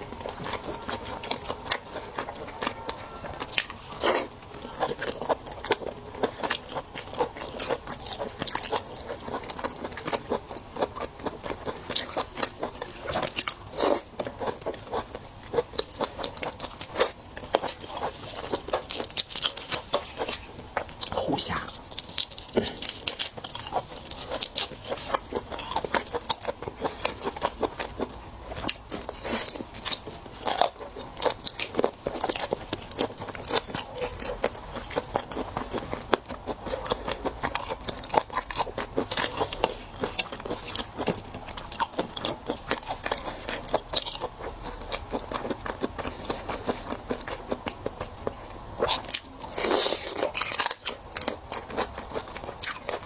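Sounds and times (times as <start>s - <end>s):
wet chewing and sucking: 0.0s - 53.0s.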